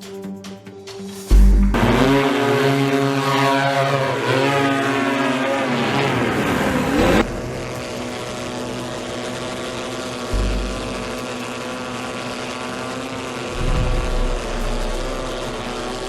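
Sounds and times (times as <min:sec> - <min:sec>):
hoverbike propellers buzzing: 0:01.7 - 0:16.0.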